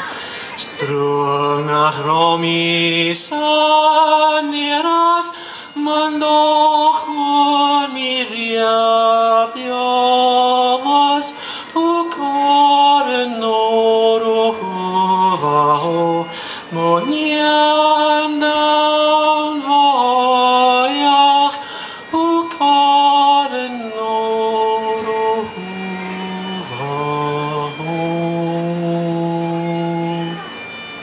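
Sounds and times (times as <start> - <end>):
man singing unaccompanied: 0.0 - 30.8.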